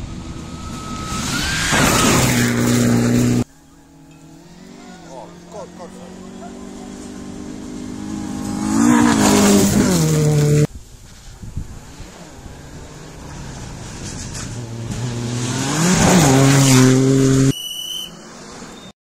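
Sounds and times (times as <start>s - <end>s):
rally cars passing at high revs: 0.0s - 18.9s.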